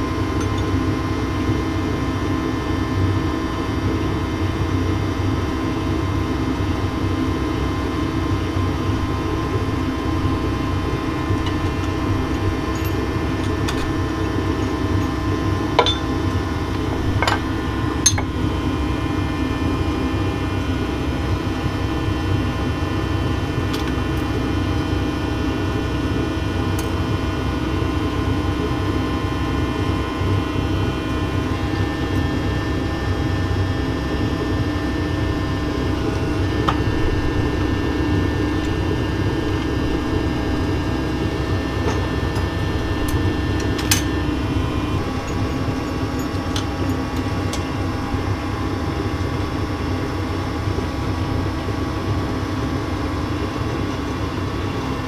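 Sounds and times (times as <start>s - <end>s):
machinery hum: 0.0s - 55.0s.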